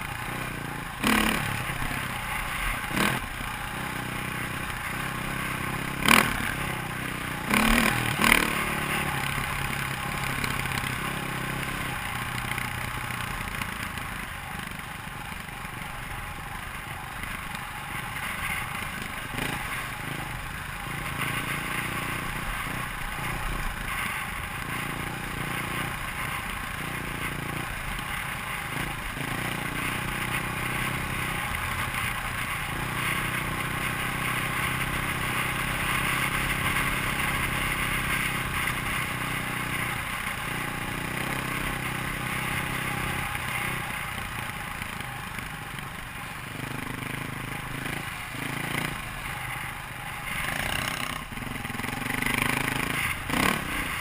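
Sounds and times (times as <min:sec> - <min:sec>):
dirt bike engine revving: 0:00.0 - 0:12.6, 0:17.8 - 0:44.4, 0:46.2 - 0:54.0.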